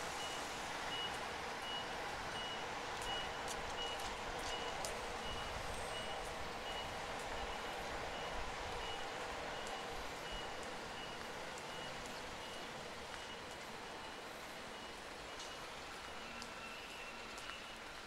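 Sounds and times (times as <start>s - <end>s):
city street traffic hum: 0.0s - 18.0s
electronic warning beeps: 0.2s - 17.8s.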